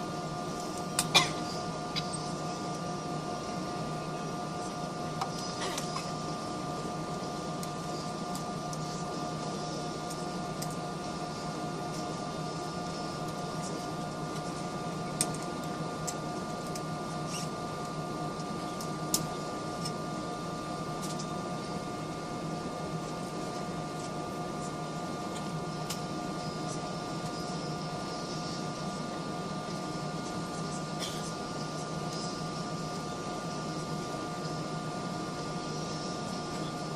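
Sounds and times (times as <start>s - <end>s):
airliner cabin drone: 0.0s - 36.9s.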